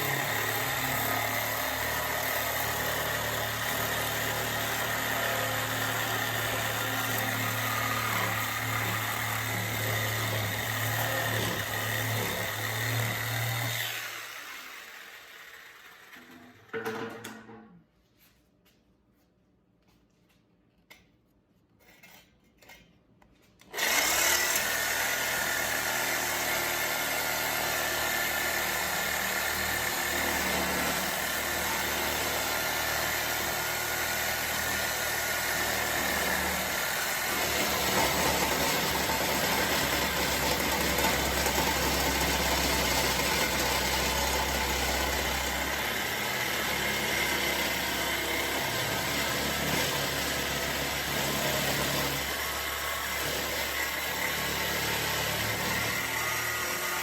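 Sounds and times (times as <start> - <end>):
power tool running: 0.0 - 17.0, 23.6 - 57.0.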